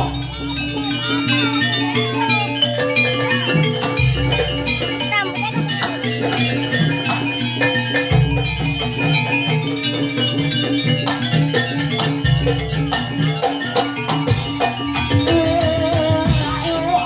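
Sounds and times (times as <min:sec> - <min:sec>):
drum beats: 0:00.0 - 0:17.0
wavering melody line: 0:00.0 - 0:17.0.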